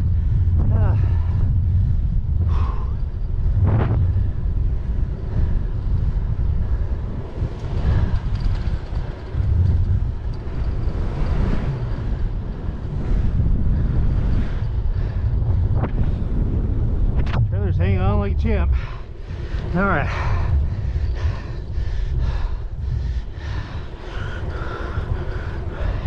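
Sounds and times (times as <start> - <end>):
faint bicycle riding noise: 0.0 - 26.0
wind buffeting microphone: 0.0 - 26.0.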